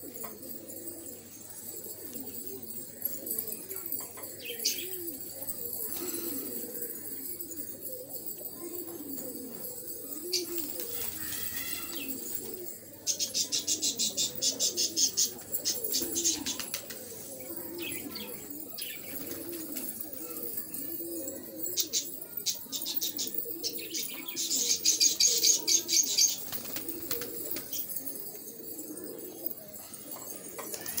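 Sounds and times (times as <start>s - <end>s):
pigeons cooing: 0.0s - 31.0s.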